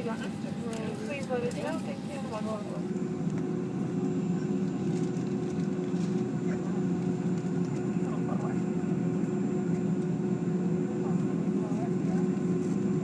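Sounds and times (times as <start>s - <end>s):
cabin air system hum: 0.0s - 13.0s
faint passenger chatter: 0.0s - 13.0s.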